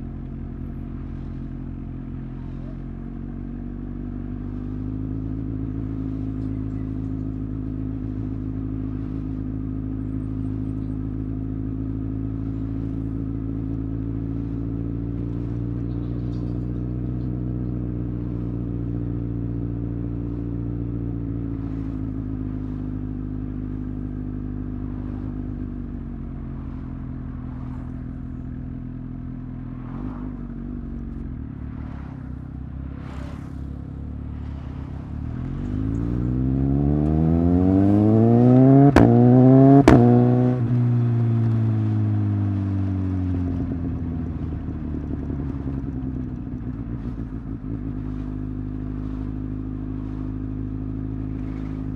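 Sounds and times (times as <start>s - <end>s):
motorcycle engine cruising: 0.0s - 51.9s.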